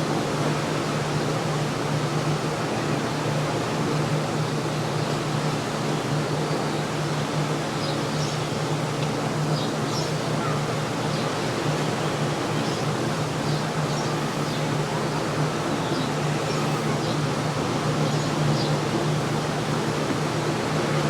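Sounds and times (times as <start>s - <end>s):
seashore surf: 0.0s - 21.0s.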